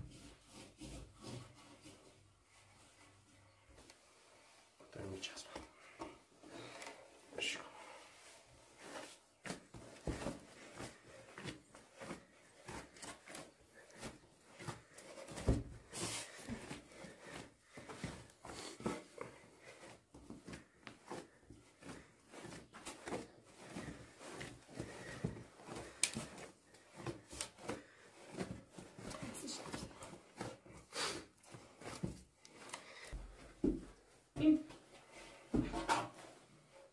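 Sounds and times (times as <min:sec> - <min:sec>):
dough kneaded in metal basin: 0:00.0 - 0:36.9.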